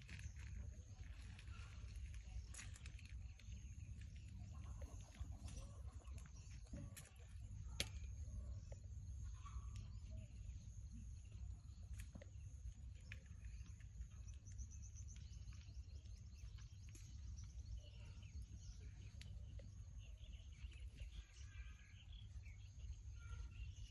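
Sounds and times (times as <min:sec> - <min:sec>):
faint chirps: 0:00.0 - 0:23.9.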